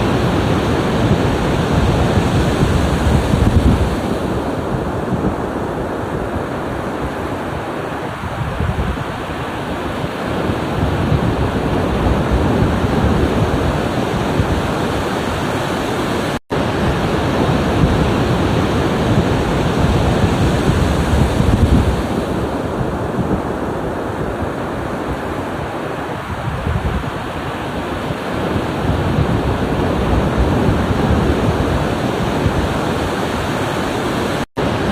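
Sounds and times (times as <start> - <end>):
ocean waves washing onto shore: 0.0 - 34.9.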